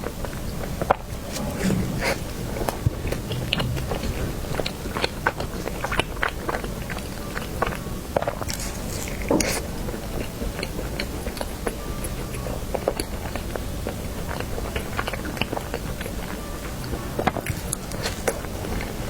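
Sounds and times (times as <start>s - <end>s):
biting and chewing cake: 0.0s - 19.0s.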